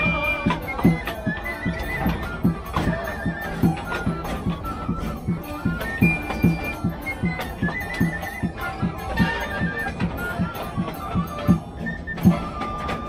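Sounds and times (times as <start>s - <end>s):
high stepping folk melody: 0.0s - 13.0s.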